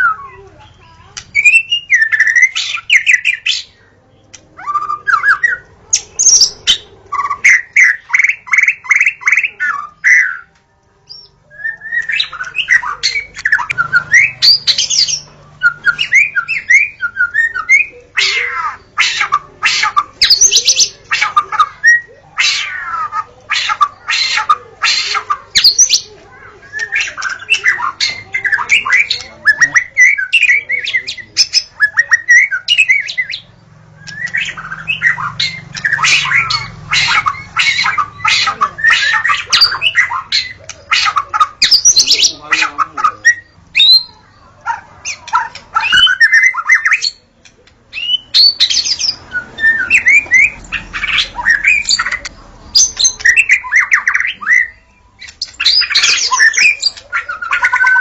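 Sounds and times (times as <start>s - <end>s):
bird singing loudly: 0.0s - 3.8s, 11.1s - 47.3s, 47.9s - 58.0s.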